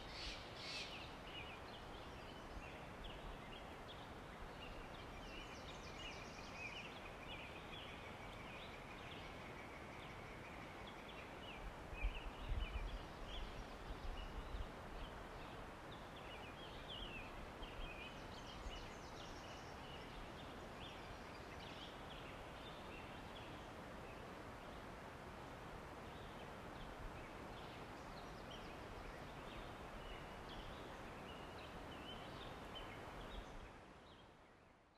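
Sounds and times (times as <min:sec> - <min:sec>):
faint steady hiss: 0:00.0 - 0:34.9.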